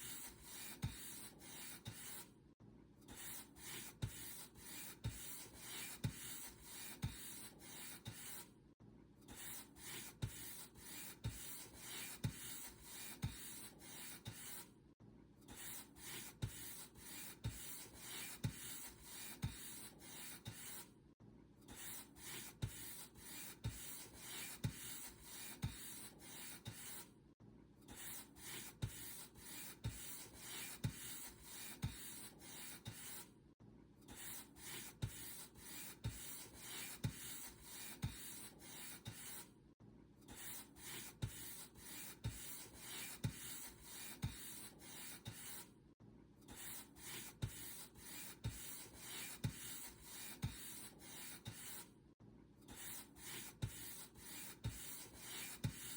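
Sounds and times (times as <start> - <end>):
paint brush stroking a surface: 0.0 - 2.3, 3.2 - 8.5, 9.4 - 14.7, 15.6 - 20.9, 21.8 - 27.1, 28.0 - 33.3, 34.2 - 39.5, 40.4 - 45.7, 46.5 - 51.9, 52.7 - 55.9.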